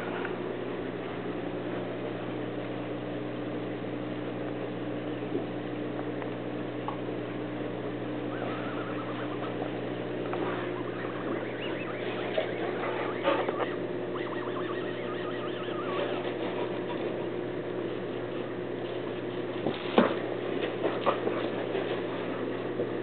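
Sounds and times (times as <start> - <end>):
aquarium air pump humming: 0.0 - 23.0.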